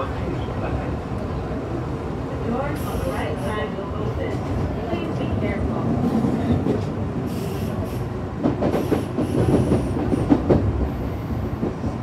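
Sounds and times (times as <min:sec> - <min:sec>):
train wheel and rail rumble: 0:00.0 - 0:12.0.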